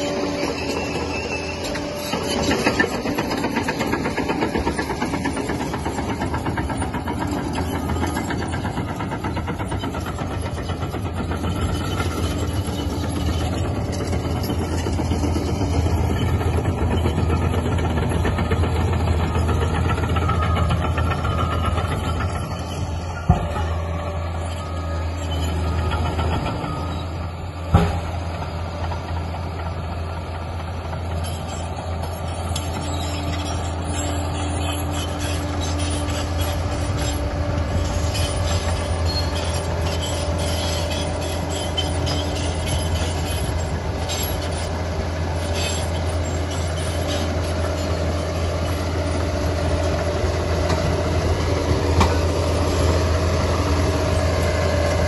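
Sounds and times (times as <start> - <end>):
dozer diesel engine running: 0.0 - 55.0
steel tracks clanking and squealing: 0.0 - 55.0.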